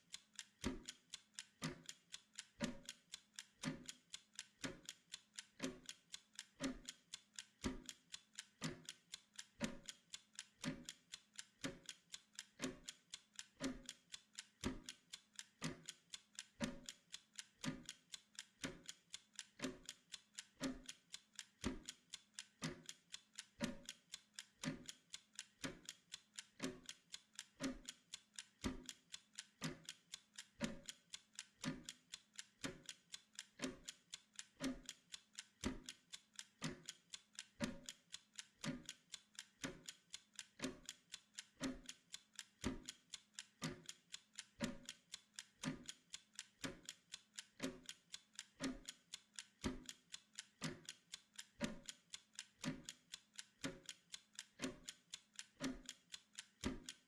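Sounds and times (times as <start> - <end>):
timer ticking: 0.0 - 57.0.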